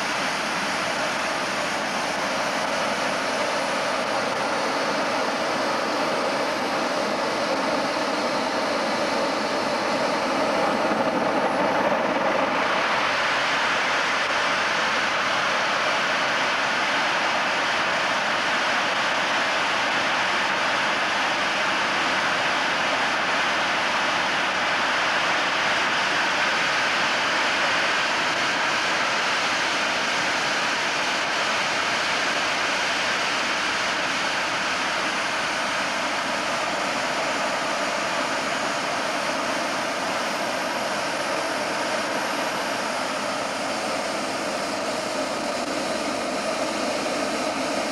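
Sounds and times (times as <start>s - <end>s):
jet turbine roar: 0.0s - 47.9s.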